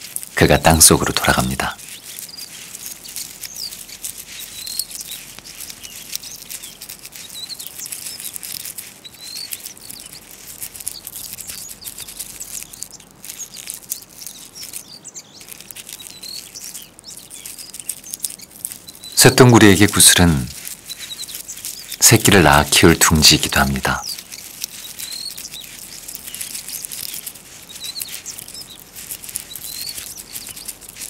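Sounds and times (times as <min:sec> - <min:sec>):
dry grass rustling: 0:00.0 - 0:31.0
small birds chirping: 0:00.0 - 0:31.0.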